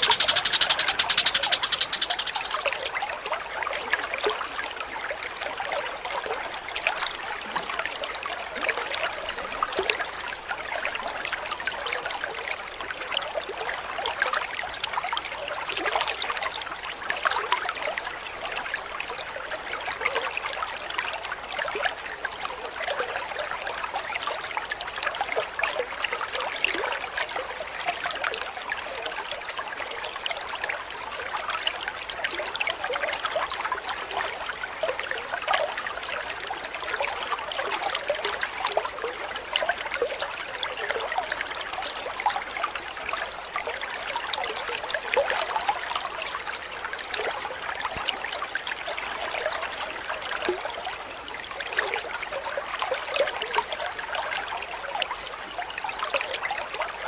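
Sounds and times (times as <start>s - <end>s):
stream water trickling: 0.0s - 2.8s, 4.1s - 57.0s.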